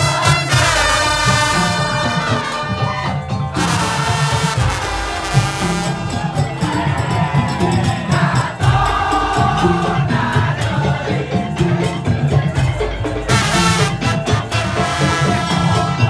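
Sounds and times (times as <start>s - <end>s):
low drums beat: 0.0s - 16.0s
percussion ensemble playing: 0.0s - 16.0s.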